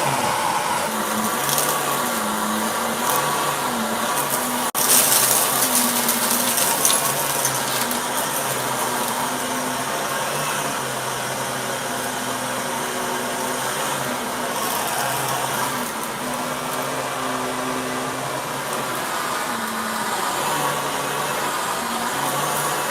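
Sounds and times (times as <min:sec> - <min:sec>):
debris rattling up vacuum: 0:00.0 - 0:22.9
vacuum cleaner running: 0:00.0 - 0:22.9.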